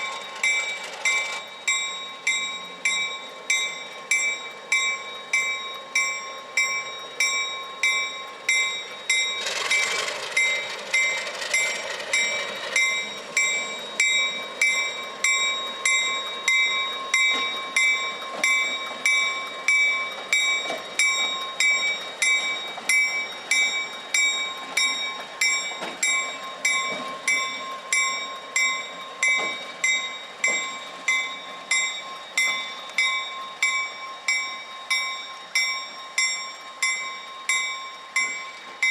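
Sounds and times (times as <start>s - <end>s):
railroad bell ringing: 0.0s - 38.9s.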